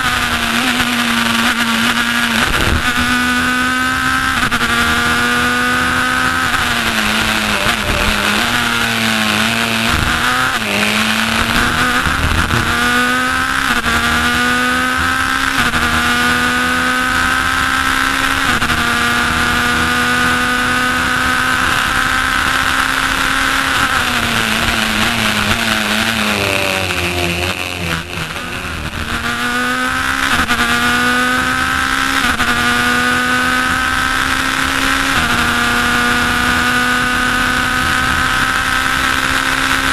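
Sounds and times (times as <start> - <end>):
racing car engine revving: 0.0 - 39.9
wind and road noise: 0.0 - 39.9.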